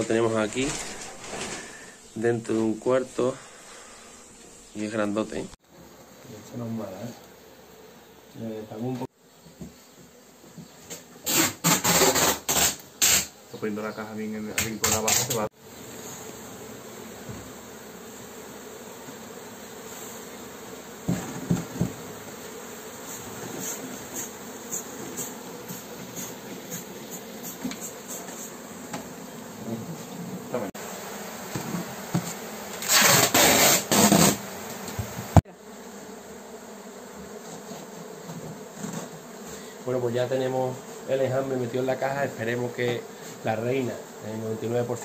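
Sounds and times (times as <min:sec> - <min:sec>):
swarm of bees buzzing: 0:00.6 - 0:45.0.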